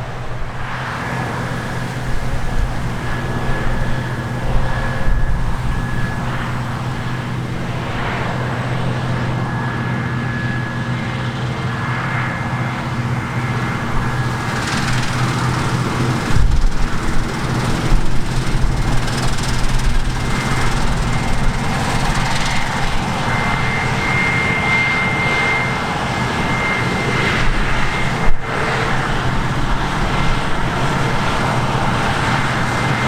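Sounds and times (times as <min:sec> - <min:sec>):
faint high whine: 0:00.0 - 0:33.0.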